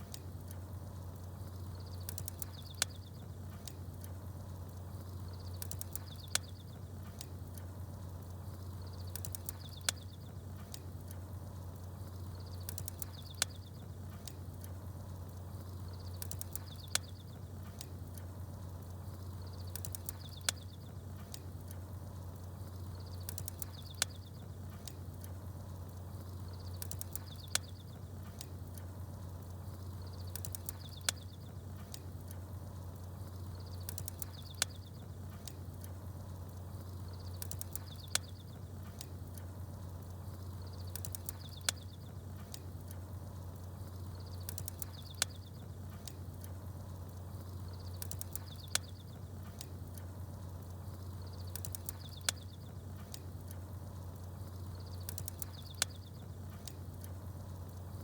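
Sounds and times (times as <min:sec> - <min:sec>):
burning wood popping: 0:00.0 - 0:58.0
small birds chirping: 0:00.0 - 0:58.0.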